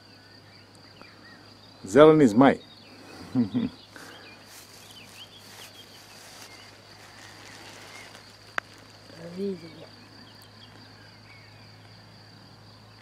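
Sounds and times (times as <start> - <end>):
faint bird chirps: 0.0 - 13.0
high insect trill: 0.0 - 13.0.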